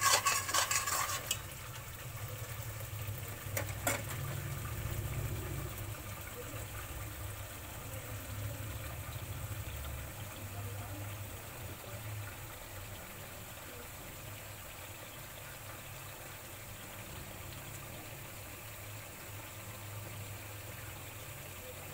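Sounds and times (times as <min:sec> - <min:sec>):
liquid sizzling in hot oil: 0:00.0 - 0:21.9.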